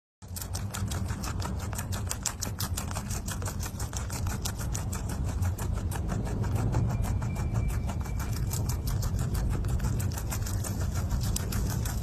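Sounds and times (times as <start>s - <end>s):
low steady hum: 0.2s - 12.0s
rabbit chewing leafy greens: 0.2s - 12.0s.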